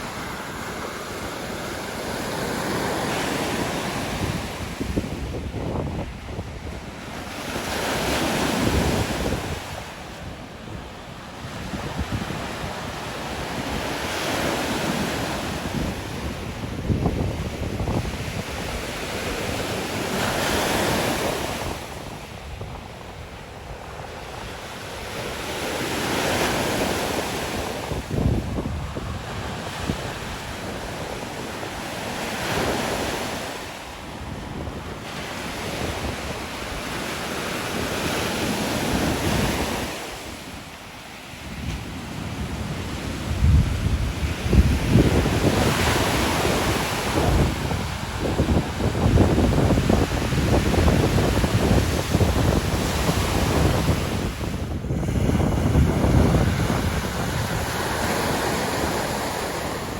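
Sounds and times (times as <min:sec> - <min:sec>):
waves breaking on beach: 0:00.0 - 0:59.9
wind buffeting microphone: 0:00.0 - 0:59.9.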